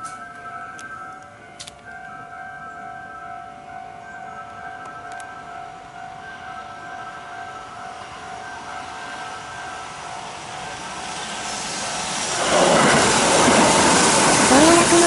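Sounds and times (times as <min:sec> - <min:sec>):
electric train running noise: 0:00.0 - 0:15.0.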